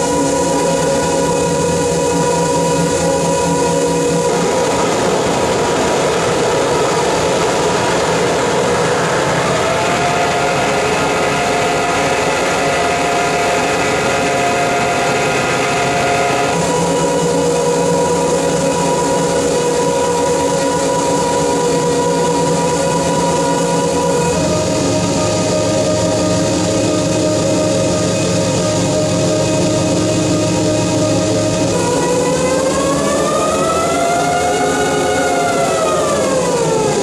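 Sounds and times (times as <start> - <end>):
dense harsh noise: 0.0 - 37.0
steady drone tones: 0.0 - 37.0.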